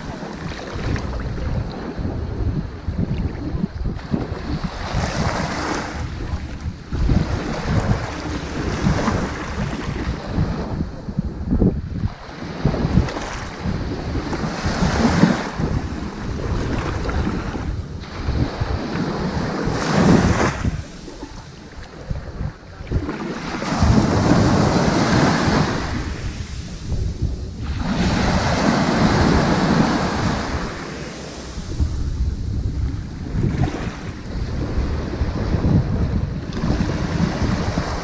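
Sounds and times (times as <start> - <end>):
ocean waves washing onto beach: 0.0 - 38.0.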